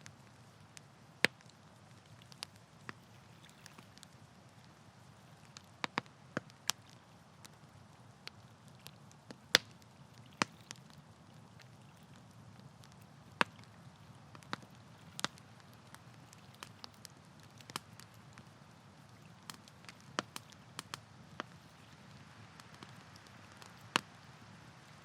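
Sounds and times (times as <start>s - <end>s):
campfire wood crackling and popping: 0.0s - 25.0s.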